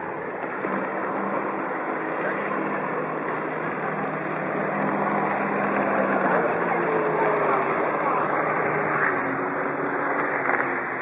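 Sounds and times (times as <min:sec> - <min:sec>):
jet ski engine drone: 0:00.0 - 0:11.0.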